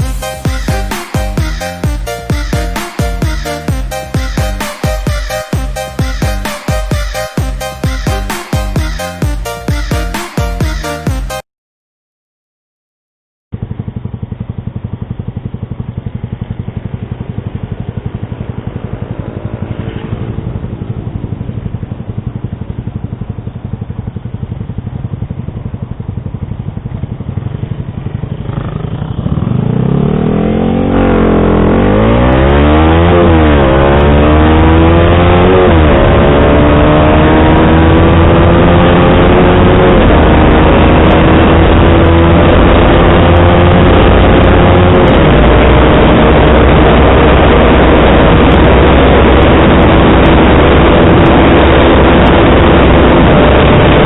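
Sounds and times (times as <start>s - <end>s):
motorcycle engine accelerating: 0.0s - 11.4s, 13.5s - 54.0s.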